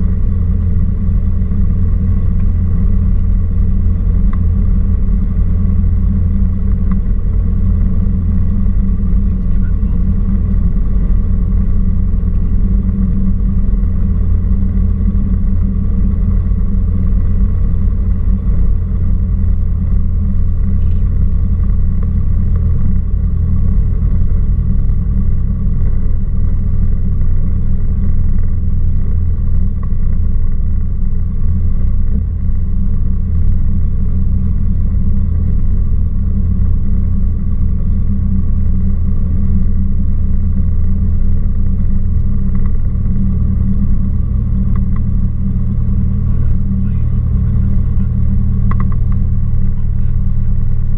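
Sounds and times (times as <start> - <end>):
propeller plane engine droning: 0.0 - 50.9.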